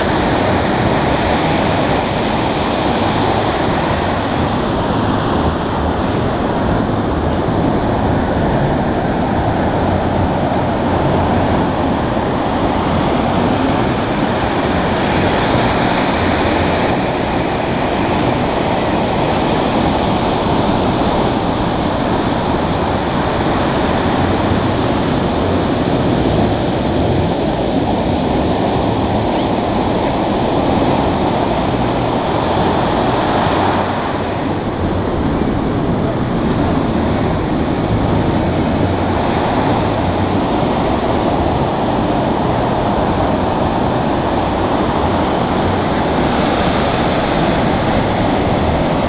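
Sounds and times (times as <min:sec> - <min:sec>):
ocean surf breaking on beach: 0:00.0 - 0:49.0.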